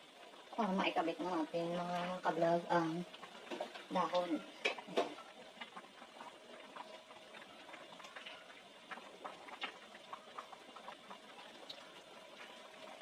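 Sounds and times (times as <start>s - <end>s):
soup bubbling and popping: 0.0s - 13.0s.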